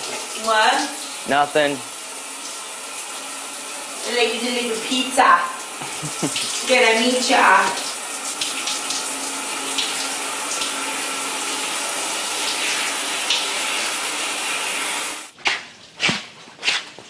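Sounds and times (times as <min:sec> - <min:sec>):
shower water running: 0:00.0 - 0:16.0.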